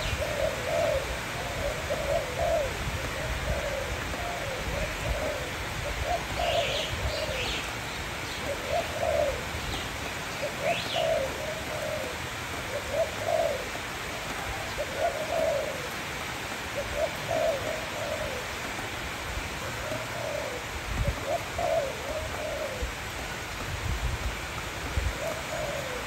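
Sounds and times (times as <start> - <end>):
dove cooing: 0.0 - 18.9, 19.5 - 23.2, 24.6 - 26.0.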